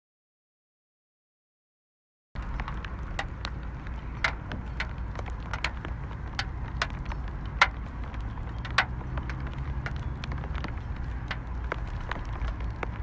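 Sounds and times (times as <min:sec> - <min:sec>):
raindrops ticking on plastic lid: 0:02.4 - 0:13.0.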